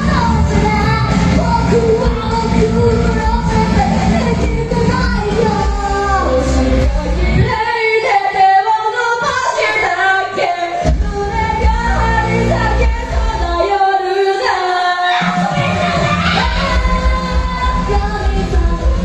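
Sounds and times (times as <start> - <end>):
live pop music: 0.0 - 19.0
woman singing: 0.0 - 19.0.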